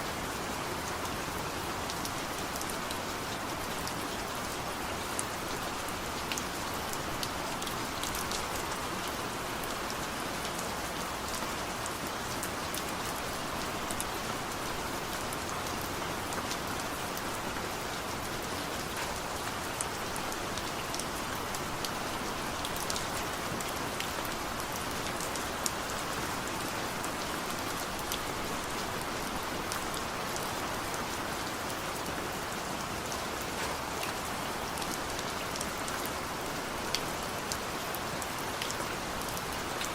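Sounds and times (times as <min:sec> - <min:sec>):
rain falling: 0:00.0 - 0:39.9
raindrops ticking on a surface: 0:00.5 - 0:39.9.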